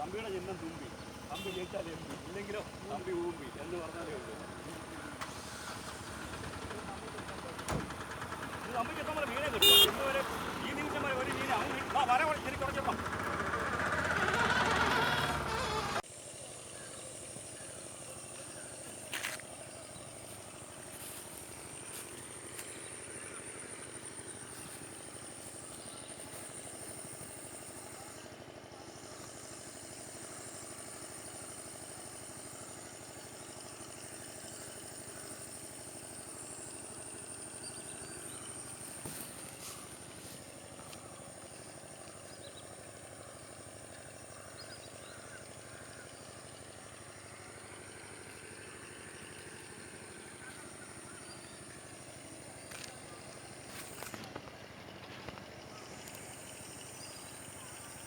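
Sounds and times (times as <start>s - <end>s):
engine-like hum: 0.0s - 58.0s.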